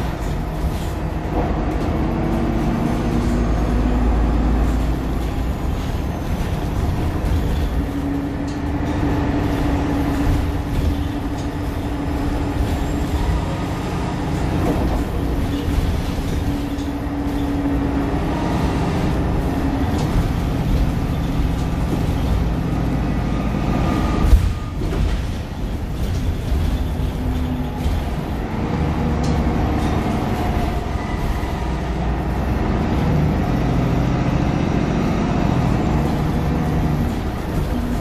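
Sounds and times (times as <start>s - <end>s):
bus engine drone: 0.0s - 38.0s
road rumble: 0.0s - 38.0s.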